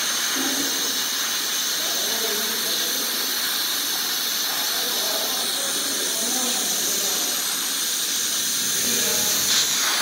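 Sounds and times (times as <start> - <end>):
welding torch flame hissing: 0.0 - 10.0.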